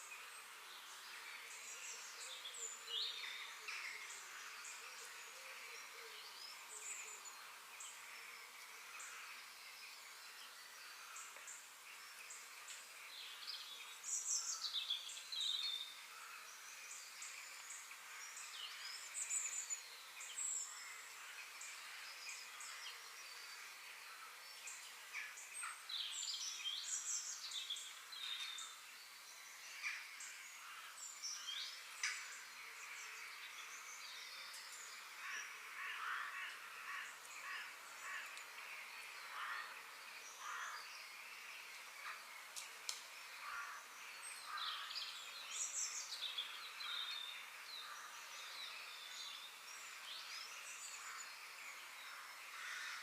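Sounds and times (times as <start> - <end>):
steady outdoor hiss: 0.0 - 53.0
wild birds chirping and singing: 0.0 - 53.0.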